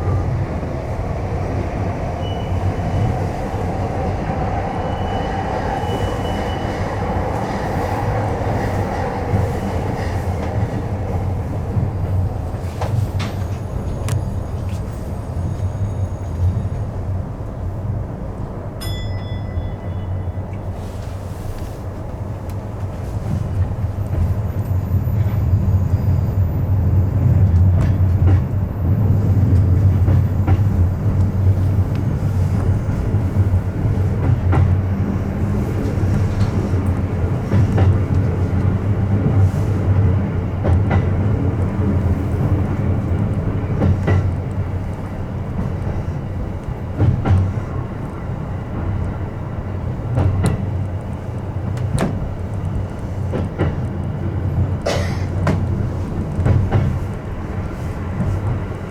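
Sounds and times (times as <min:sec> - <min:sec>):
train rumble from inside: 0:00.0 - 0:58.9.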